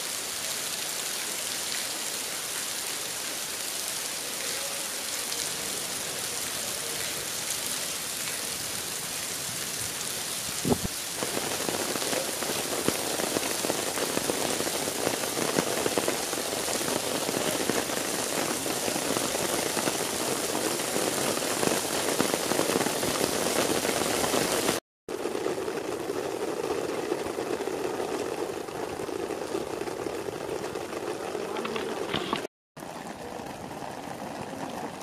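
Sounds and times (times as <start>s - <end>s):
steady rain pattering: 0.0s - 35.0s.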